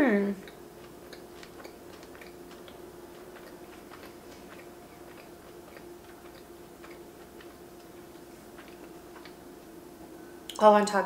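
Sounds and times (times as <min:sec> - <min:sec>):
mouth chewing clicks and smacks: 0:00.4 - 0:09.4.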